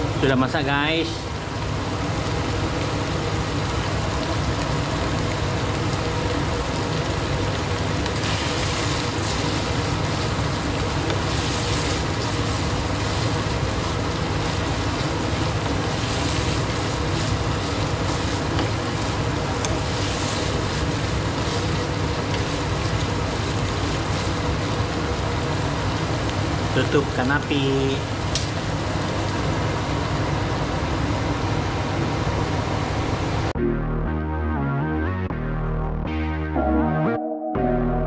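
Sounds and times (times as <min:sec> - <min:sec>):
gas stove flame rushing: 0:00.0 - 0:33.5
sauce simmering in a pan: 0:00.9 - 0:32.2.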